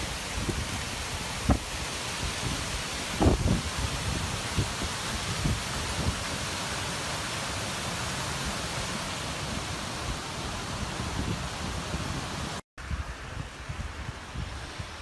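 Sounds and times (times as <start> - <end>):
floodwater rushing: 0.0 - 15.0
rain: 0.0 - 15.0.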